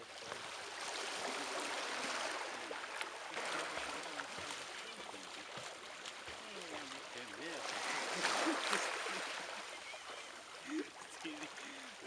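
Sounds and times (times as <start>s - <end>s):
sea waves washing on shore: 0.0s - 12.0s.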